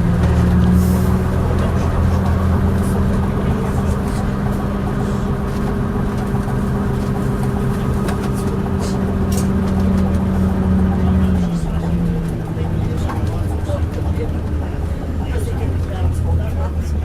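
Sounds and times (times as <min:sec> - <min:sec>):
diesel bus engine running: 0:00.0 - 0:17.0.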